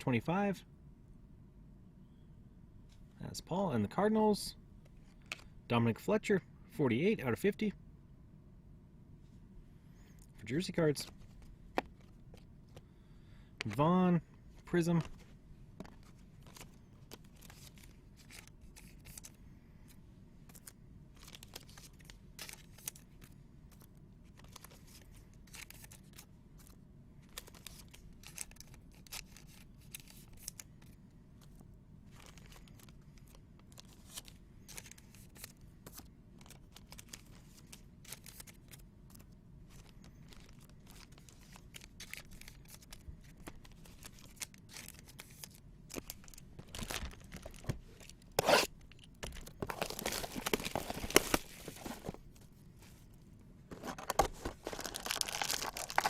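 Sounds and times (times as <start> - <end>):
trading cards being handled: 10.6 - 13.0, 13.6 - 56.0.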